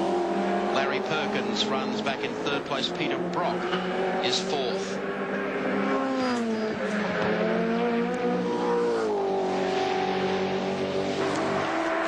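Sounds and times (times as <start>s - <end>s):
race car engine: 0.0s - 12.0s.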